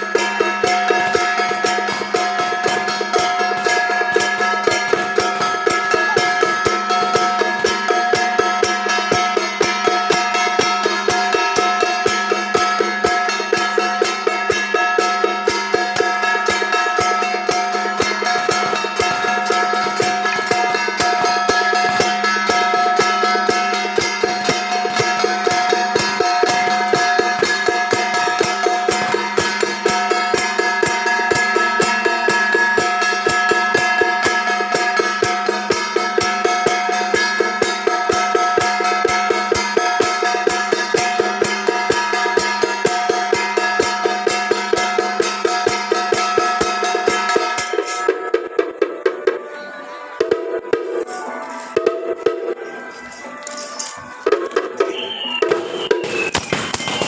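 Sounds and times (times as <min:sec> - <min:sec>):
steady ringing tones: 0:00.0 - 0:48.3
fast drum beat: 0:00.0 - 0:48.4, 0:54.3 - 0:57.0.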